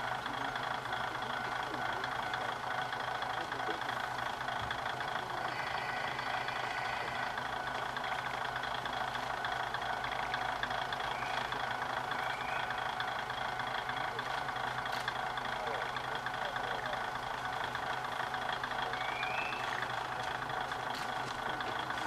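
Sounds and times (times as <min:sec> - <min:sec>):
diesel railcar engine idling: 0:00.0 - 0:22.0.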